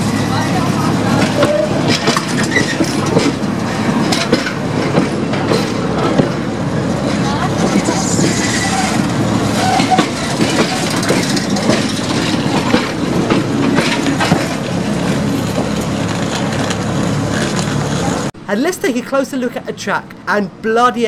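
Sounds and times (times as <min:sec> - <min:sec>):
tram wheels clunking over track: 0:00.0 - 0:18.3.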